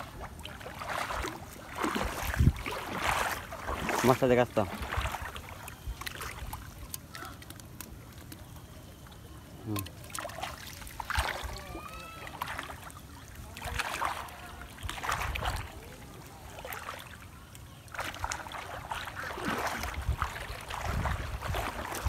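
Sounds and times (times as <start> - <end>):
water splashing from wading: 0.0 - 22.0.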